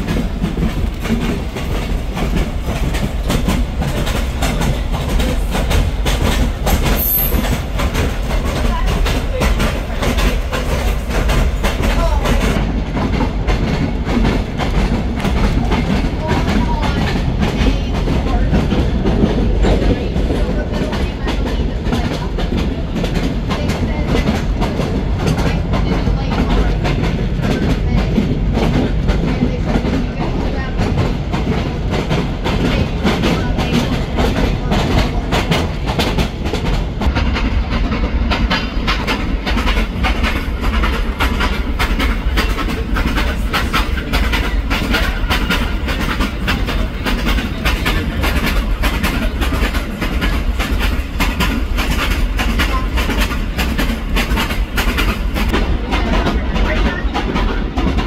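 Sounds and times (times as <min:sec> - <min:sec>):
low train rumble: 0:00.0 - 0:58.0
steel wheels clattering on rails: 0:00.0 - 0:58.0.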